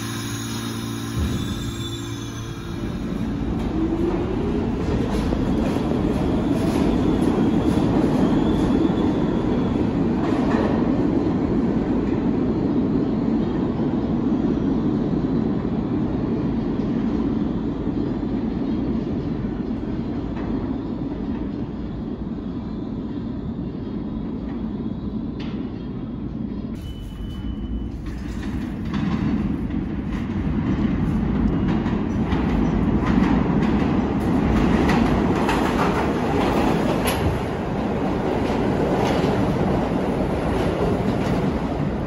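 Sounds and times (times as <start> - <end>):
subway train rumbling: 0.0 - 42.0.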